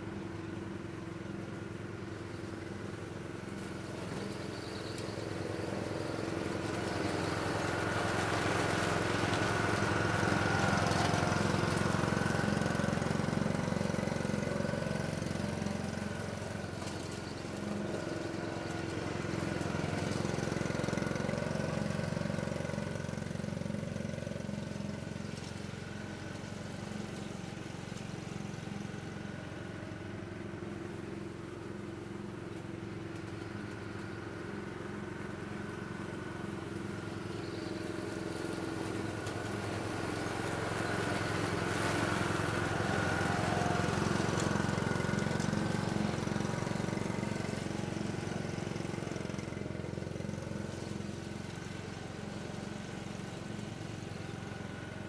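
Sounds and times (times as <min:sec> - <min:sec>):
ride-on lawn mower engine: 0:00.0 - 0:55.0.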